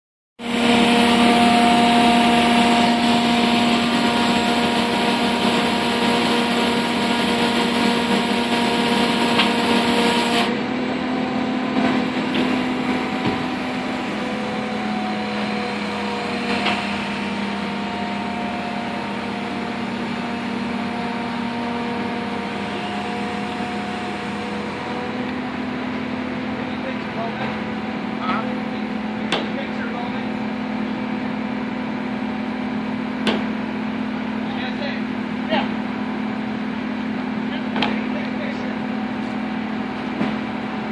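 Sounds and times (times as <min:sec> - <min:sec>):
crane engine running: 0:00.4 - 0:40.9.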